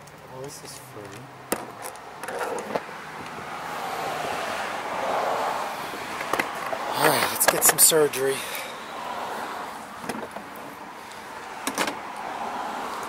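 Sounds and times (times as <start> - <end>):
vehicle passing: 0.9 - 13.0.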